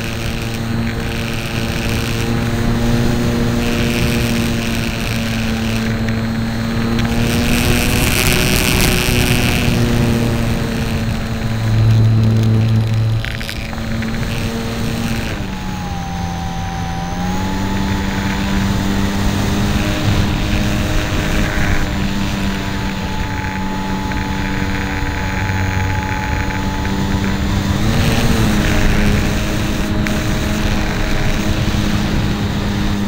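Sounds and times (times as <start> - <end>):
model plane motor whine: 0.0 - 33.0
wind noise: 0.0 - 33.0.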